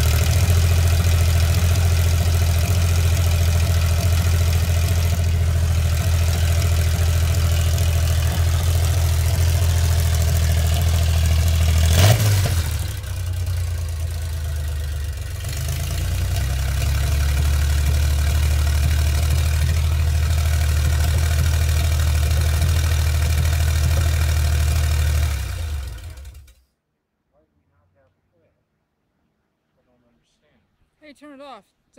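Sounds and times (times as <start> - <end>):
car engine running: 0.0 - 26.6.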